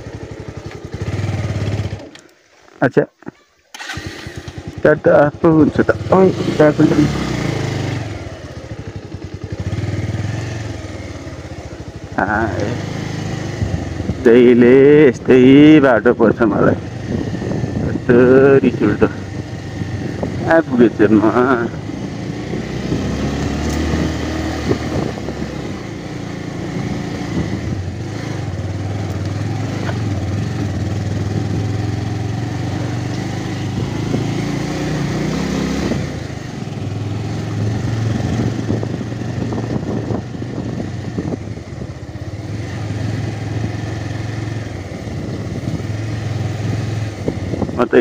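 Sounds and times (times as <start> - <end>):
motorcycle engine running: 0.0 - 3.0, 3.8 - 48.0.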